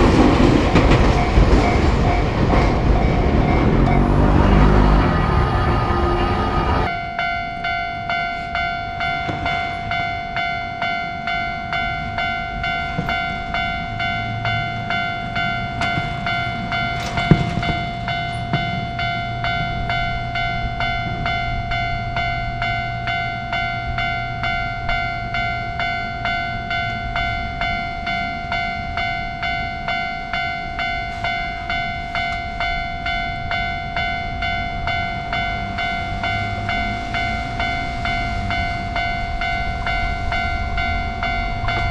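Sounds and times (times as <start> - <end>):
level-crossing alarm bell ringing: 0.0 - 41.9.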